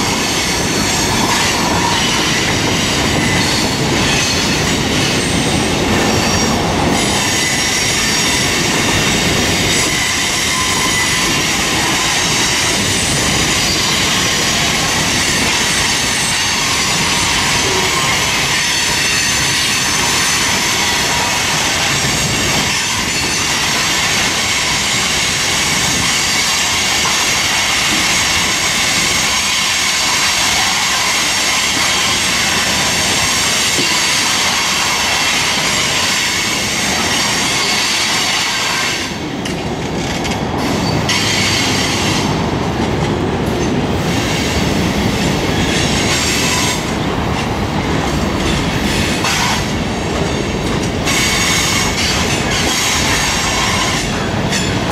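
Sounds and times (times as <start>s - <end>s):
train wheels squealing: 0.0s - 39.3s, 40.0s - 42.4s, 44.1s - 46.9s, 48.4s - 54.9s
wheels rumbling and clattering on rail: 0.0s - 54.9s.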